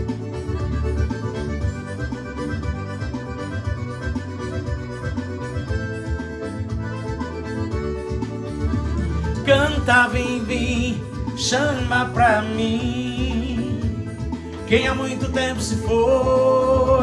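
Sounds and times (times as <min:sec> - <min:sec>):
accordion solo: 0:00.0 - 0:17.0
bass: 0:00.0 - 0:17.0
percussion: 0:00.0 - 0:17.0.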